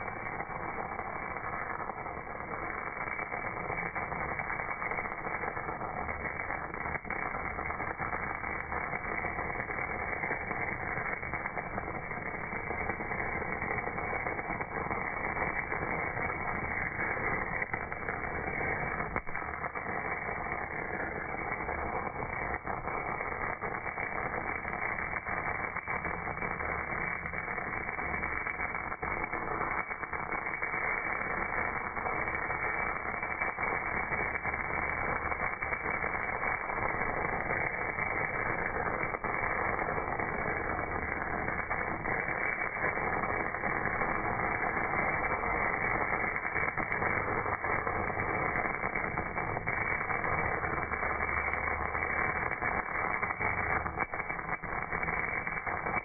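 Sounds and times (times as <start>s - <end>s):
slowed welding arc rushing: 0.0s - 56.0s.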